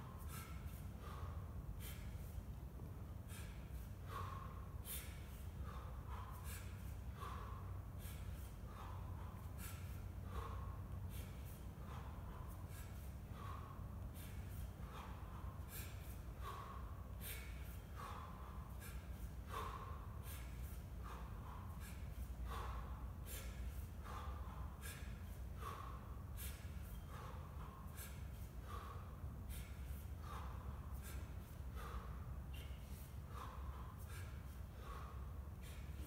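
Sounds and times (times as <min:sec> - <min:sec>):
man breathing hard: 0:00.0 - 0:36.0.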